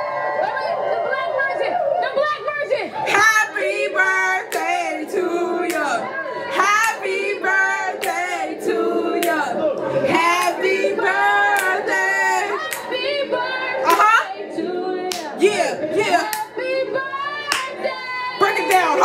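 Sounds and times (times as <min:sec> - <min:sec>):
several voices singing together: 0:03.0 - 0:19.0.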